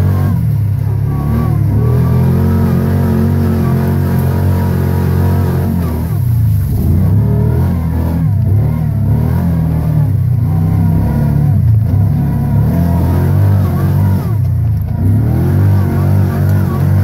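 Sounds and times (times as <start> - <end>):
vehicle engine working under load: 0.0 - 17.0.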